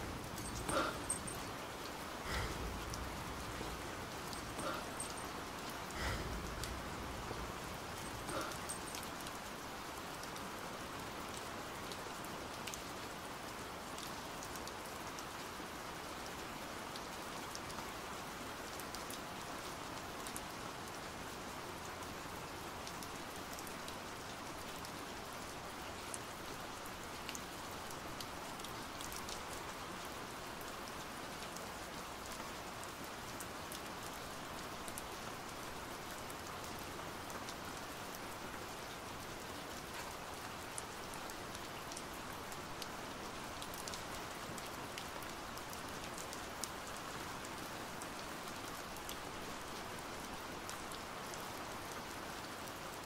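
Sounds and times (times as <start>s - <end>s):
steady pouring rain: 0.0s - 53.0s.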